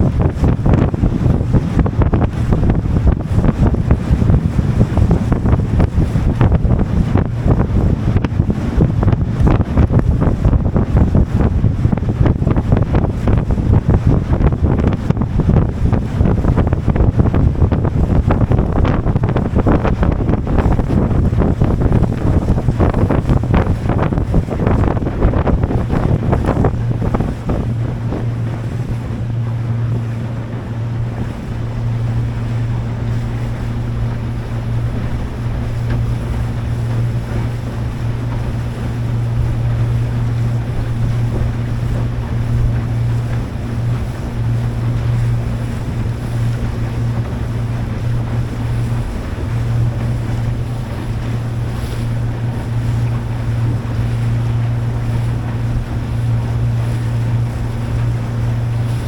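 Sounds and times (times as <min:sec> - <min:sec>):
boat engine drone: 0:00.0 - 0:59.0
water noise: 0:00.0 - 0:59.0
wind buffeting microphone: 0:00.0 - 0:59.0.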